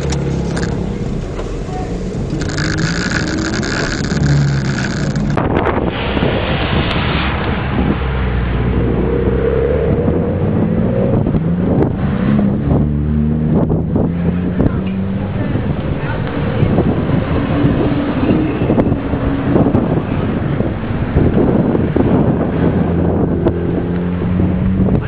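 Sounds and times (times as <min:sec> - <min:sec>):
car engine running at low revs: 0:00.0 - 0:25.0
wind noise on microphone: 0:00.0 - 0:25.0.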